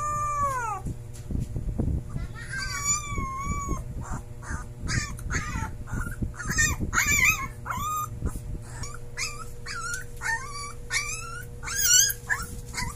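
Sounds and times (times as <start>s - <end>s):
puppy howling and yipping: 0.0s - 0.9s, 2.1s - 12.9s.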